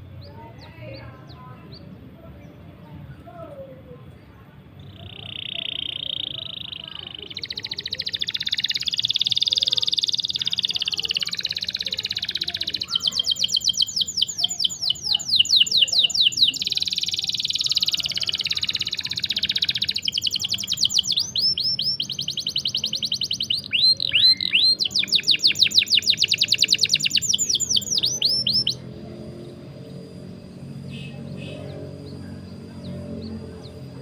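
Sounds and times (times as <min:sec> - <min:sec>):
canary singing trills: 0:00.0 - 0:34.0.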